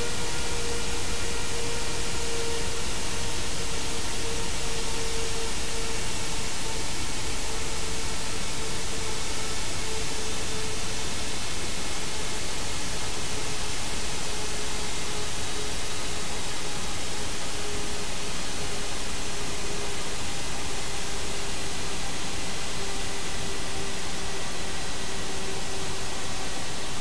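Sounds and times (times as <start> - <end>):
jet engine winding down: 0.0 - 27.0.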